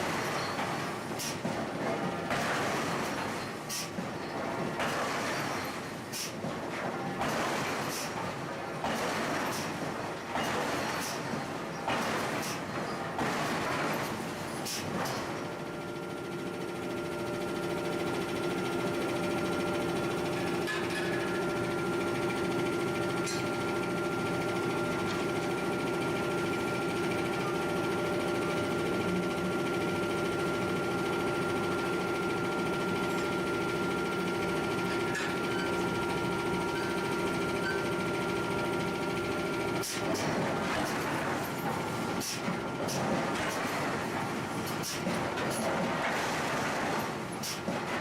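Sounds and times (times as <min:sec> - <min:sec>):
industrial machinery hum: 0:00.0 - 0:48.0.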